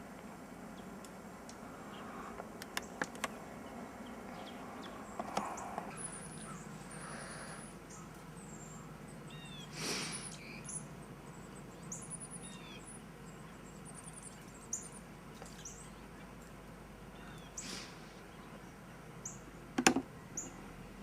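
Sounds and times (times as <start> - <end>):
steady low hum: 0.0 - 21.0
small birds chirping: 0.6 - 21.0.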